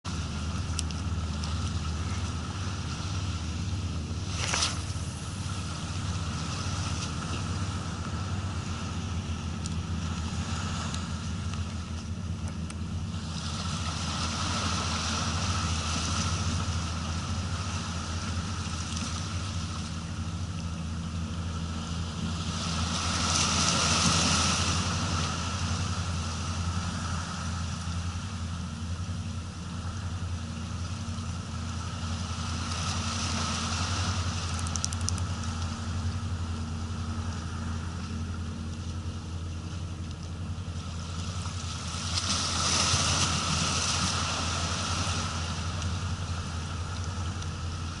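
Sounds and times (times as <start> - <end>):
low engine hum: 0.0 - 48.0.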